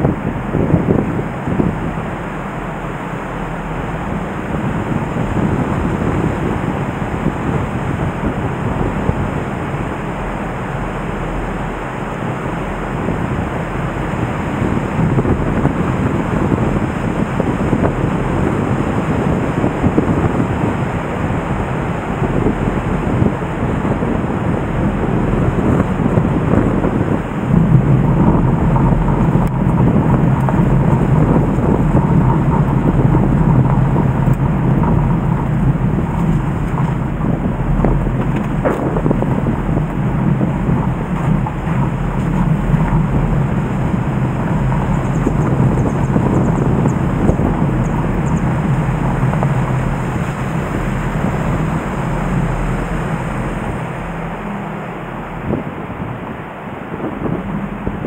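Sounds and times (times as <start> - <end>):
flooded river rushing: 0.0 - 58.0
low hum: 0.0 - 58.0.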